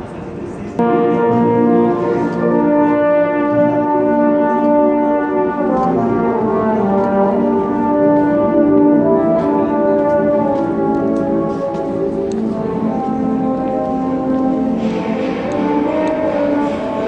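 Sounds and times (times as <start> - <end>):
brass instruments holding notes: 0.8 - 17.0.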